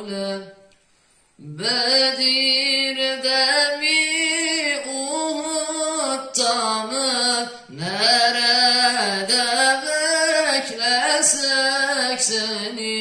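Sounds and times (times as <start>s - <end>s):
man singing unaccompanied: 0.0s - 0.6s, 1.4s - 13.0s.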